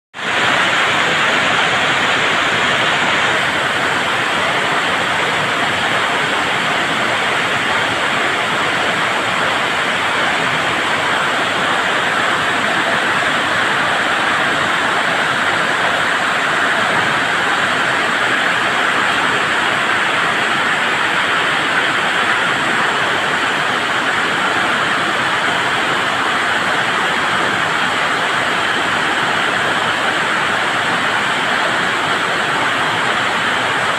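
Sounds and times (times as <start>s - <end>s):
heavy rain downpour: 0.1s - 33.9s.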